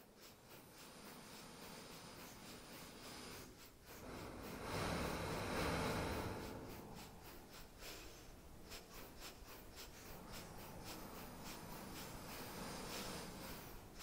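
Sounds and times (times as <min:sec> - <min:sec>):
breathy airy hiss: 0:00.0 - 0:14.0.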